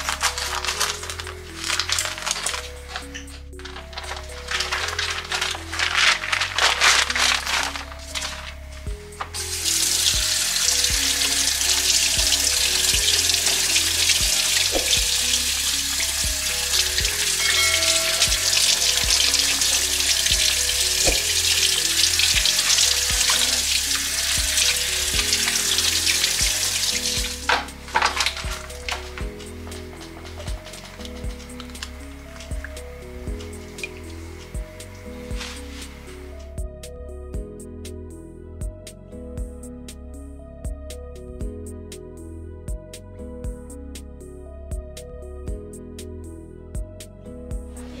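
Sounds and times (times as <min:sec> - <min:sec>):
background music with bass: 0:00.0 - 0:48.0.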